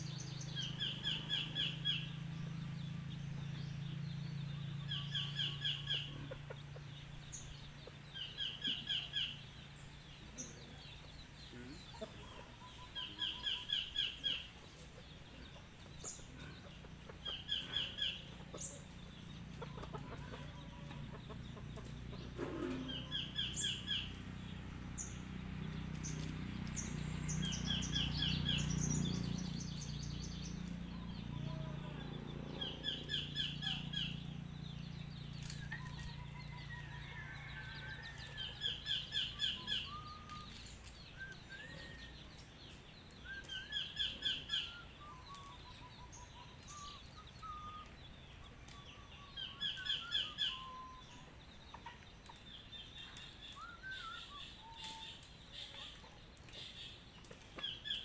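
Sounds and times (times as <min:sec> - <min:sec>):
songbird singing rapid notes: 0:00.0 - 0:19.7, 0:20.4 - 0:58.0
birds whistling calls: 0:00.0 - 0:58.0.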